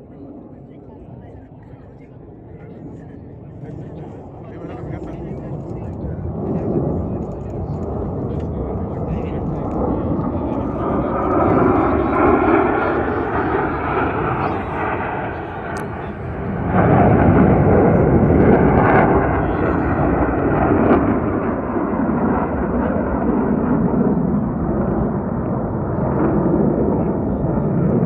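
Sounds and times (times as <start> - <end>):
jets roaring past overhead: 3.7 - 28.0.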